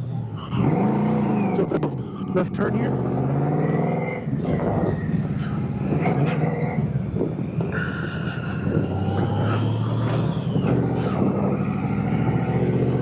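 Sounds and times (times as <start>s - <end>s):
high engine whine: 0.0s - 13.0s.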